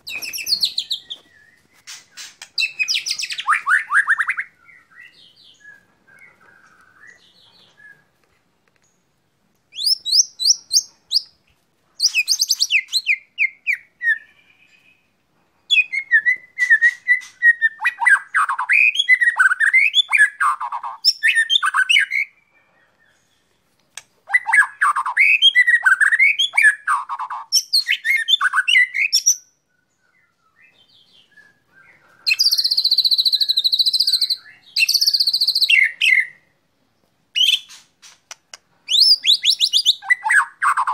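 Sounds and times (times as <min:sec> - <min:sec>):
bird singing: 0:00.0 - 0:08.2, 0:08.8 - 0:38.2, 0:38.8 - 0:40.9.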